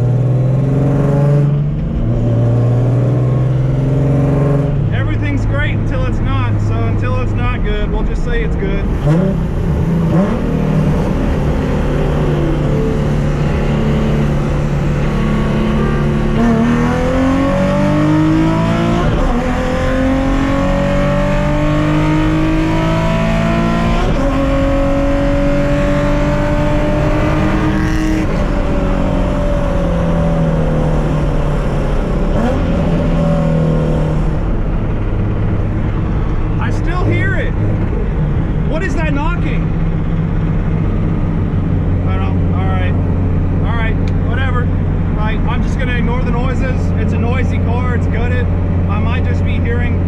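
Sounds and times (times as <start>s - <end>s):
car engine accelerating through gears: 0.0s - 5.9s, 8.8s - 48.9s.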